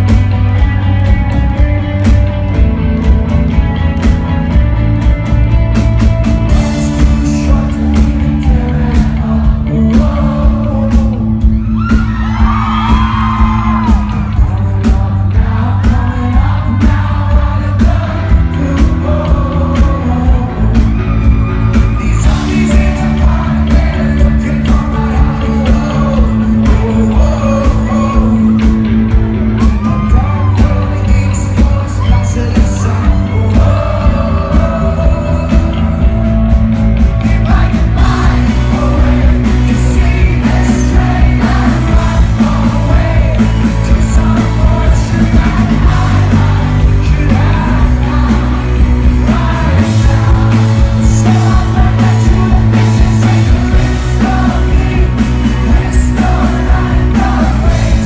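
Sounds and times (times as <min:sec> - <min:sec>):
drums: 0:00.0 - 0:58.0
heavy bass line: 0:00.0 - 0:58.0
lead singer singing: 0:00.0 - 0:58.0.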